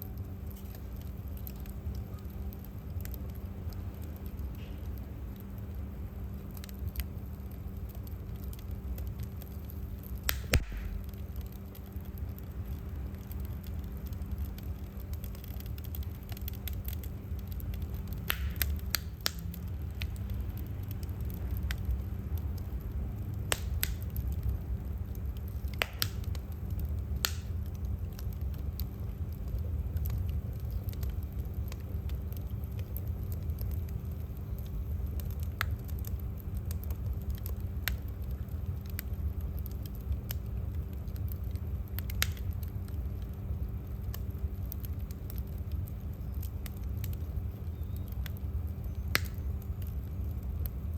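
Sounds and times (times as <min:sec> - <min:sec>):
faint hum: 0:00.0 - 0:50.9
wood fire crackling: 0:00.0 - 0:50.9.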